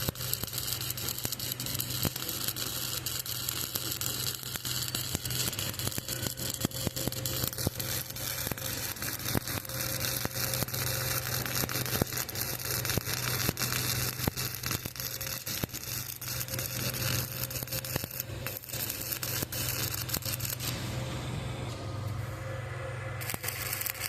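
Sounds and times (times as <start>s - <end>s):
welding arc crackling: 0.0s - 21.0s, 23.2s - 24.0s
low hum: 0.2s - 24.0s.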